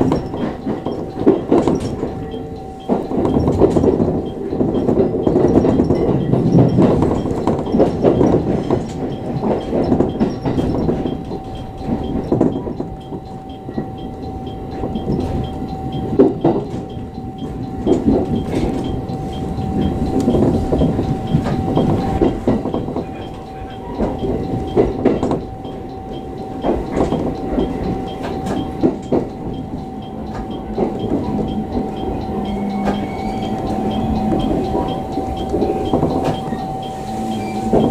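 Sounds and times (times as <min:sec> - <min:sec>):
thin steady whine: 0:00.0 - 0:37.9
train rumble: 0:00.0 - 0:37.9
train wheels clacking over rails: 0:00.0 - 0:37.9.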